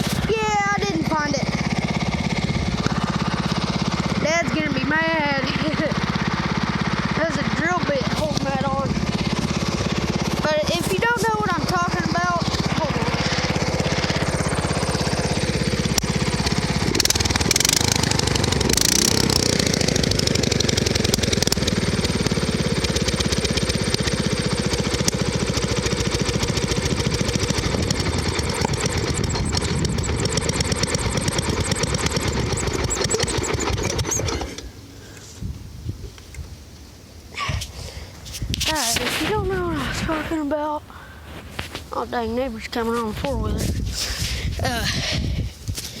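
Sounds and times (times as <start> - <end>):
riding lawn mower engine running: 0.0 - 46.0.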